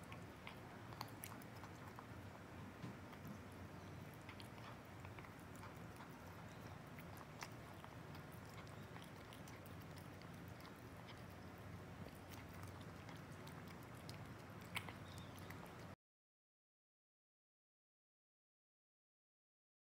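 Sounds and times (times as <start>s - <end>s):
cat chewing food: 0.0s - 16.0s.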